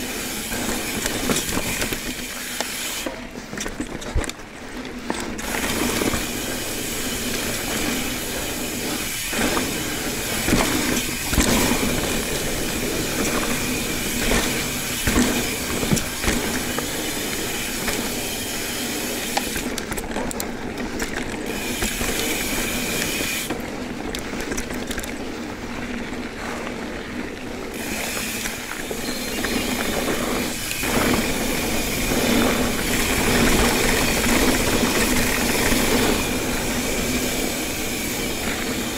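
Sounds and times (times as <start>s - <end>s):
bike rattling: 0.0s - 38.9s
bike tyres rolling over dirt: 0.0s - 38.9s.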